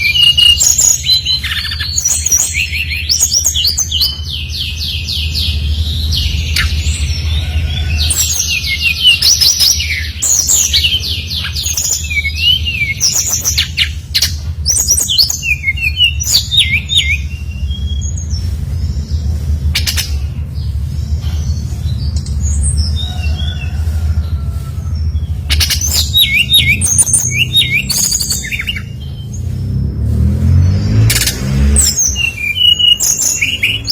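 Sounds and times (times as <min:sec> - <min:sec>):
flycatcher singing chirps and trills: 0:00.0 - 0:23.7, 0:25.0 - 0:29.8, 0:30.7 - 0:33.9
steady low hum: 0:00.0 - 0:33.9.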